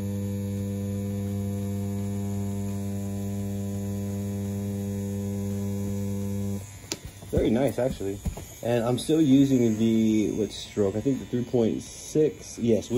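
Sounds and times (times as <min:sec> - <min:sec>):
tattoo pen motor buzzing: 0:00.0 - 0:12.9.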